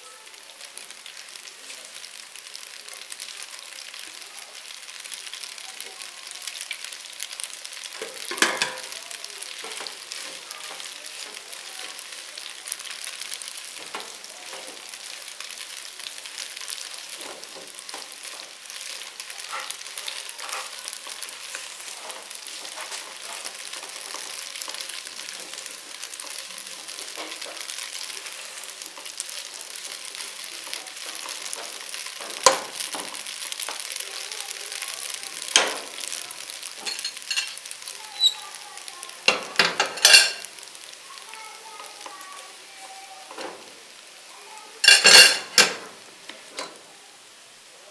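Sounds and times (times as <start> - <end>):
food sizzling in oil: 0.0 - 47.9.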